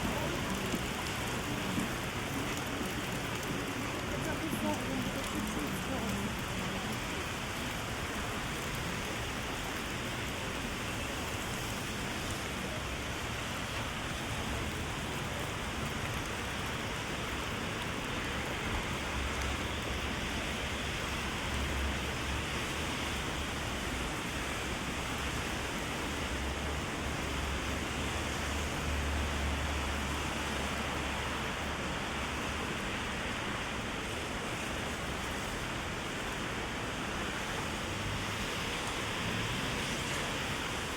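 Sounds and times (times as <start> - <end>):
rain on an umbrella: 0.0 - 40.9.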